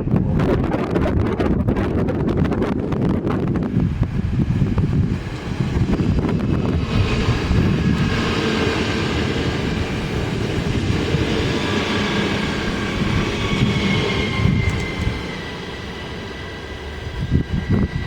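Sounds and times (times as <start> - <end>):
high train whine: 0.0 - 18.0
train rumbling past: 0.0 - 18.0.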